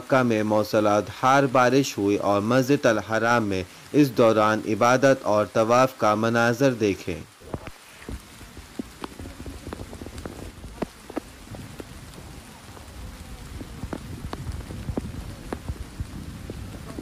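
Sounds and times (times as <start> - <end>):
heavy rain: 0.0 - 17.0
raindrops ticking close by: 0.0 - 17.0.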